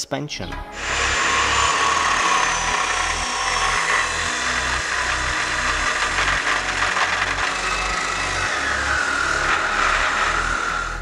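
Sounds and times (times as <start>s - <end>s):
angle grinder cutting steel: 0.7s - 11.0s.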